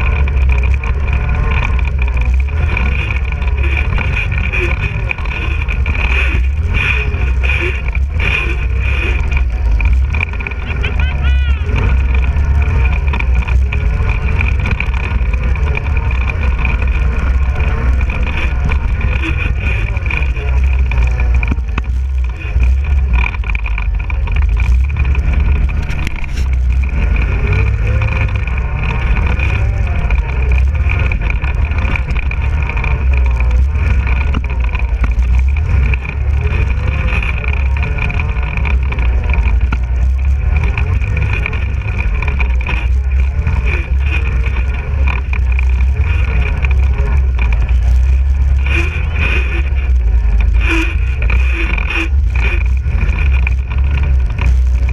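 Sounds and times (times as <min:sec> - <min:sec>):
atv engine revving: 0:00.0 - 0:54.9
low rumble over rough trail: 0:00.0 - 0:54.9.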